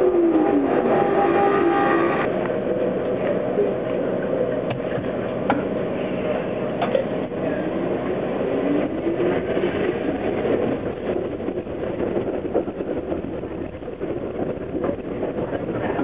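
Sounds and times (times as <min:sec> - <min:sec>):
streetcar rumbling on rails: 0:00.0 - 0:16.0.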